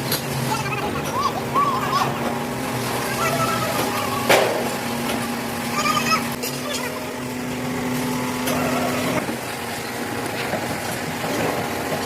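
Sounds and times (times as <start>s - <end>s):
workshop machine humming: 0.0s - 12.0s.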